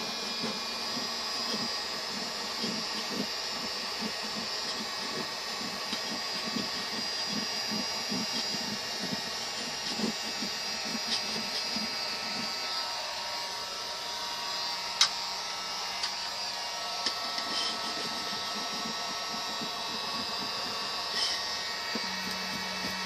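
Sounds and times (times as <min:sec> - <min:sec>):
hot-air blower fan whirring: 0:00.0 - 0:23.0.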